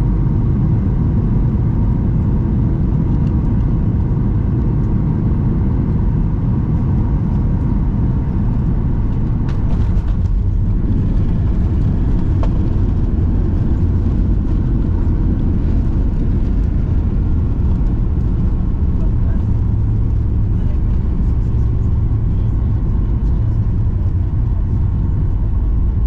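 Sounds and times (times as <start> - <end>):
airplane cabin low rumble: 0.0 - 26.0.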